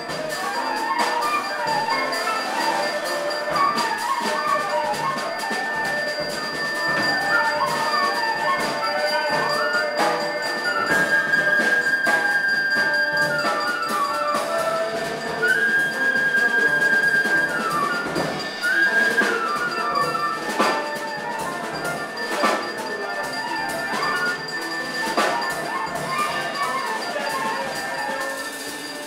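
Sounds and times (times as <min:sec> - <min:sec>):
drum kit: 0:00.0 - 0:29.0
flute playing: 0:00.0 - 0:29.0
piano: 0:00.0 - 0:29.0.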